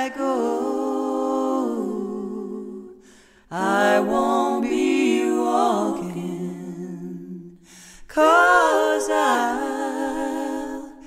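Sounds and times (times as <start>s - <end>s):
person singing slow song: 0.0s - 11.0s.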